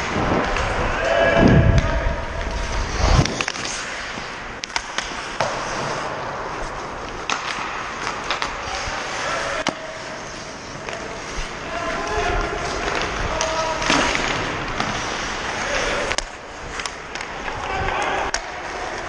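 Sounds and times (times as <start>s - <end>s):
echoing rink hum: 0.0s - 19.0s
hockey sticks and puck clacking: 0.0s - 19.0s
skates scraping on ice: 0.0s - 19.0s.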